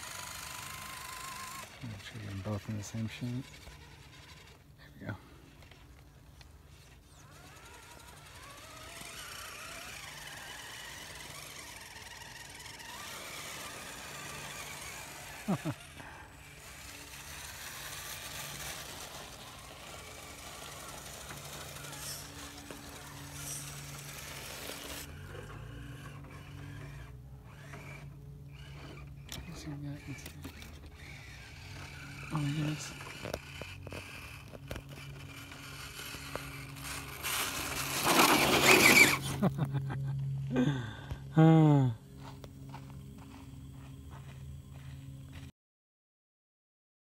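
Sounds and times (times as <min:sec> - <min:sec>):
electric motors whining: 0:00.0 - 0:45.5.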